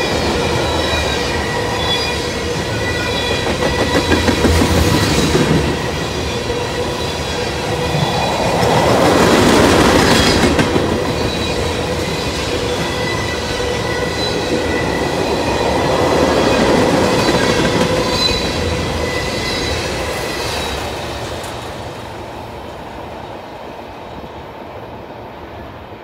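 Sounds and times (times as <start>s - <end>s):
freight train rolling on rails: 0.0s - 26.0s.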